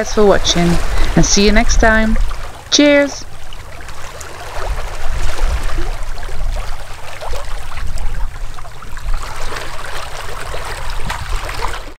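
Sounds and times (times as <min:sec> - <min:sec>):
low uneven rumble: 0:00.0 - 0:11.9
water rushing and splashing: 0:00.0 - 0:11.9.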